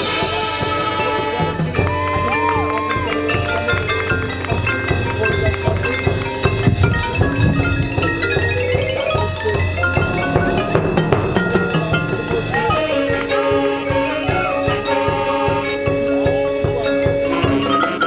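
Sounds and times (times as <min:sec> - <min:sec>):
drum strikes: 0:00.0 - 0:17.8
marching band chords: 0:00.0 - 0:18.0
marimba xylophone and glockenspiel: 0:00.0 - 0:18.0.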